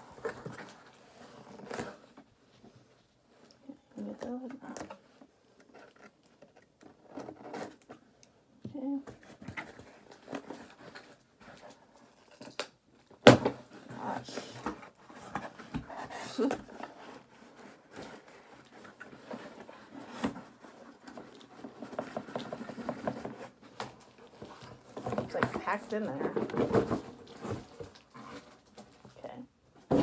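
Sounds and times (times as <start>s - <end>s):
cardboard and tape rustling: 0.0s - 30.0s.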